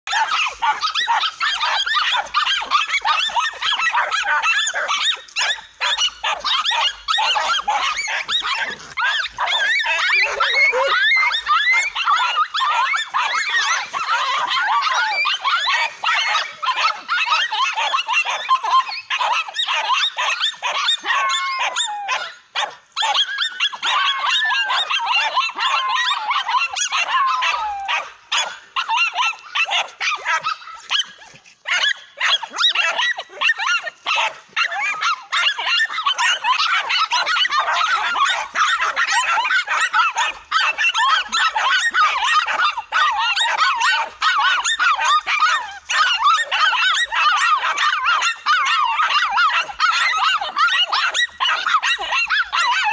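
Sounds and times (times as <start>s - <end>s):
dogs barking and yapping: 0.0s - 52.9s.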